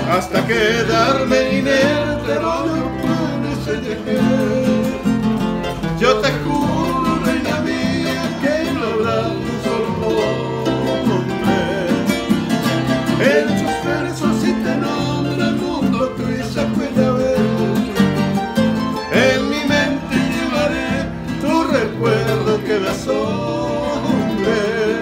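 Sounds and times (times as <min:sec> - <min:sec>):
two men singing a ballad: 0:00.0 - 0:18.0, 0:19.1 - 0:25.0
strummed acoustic guitar: 0:00.0 - 0:25.0.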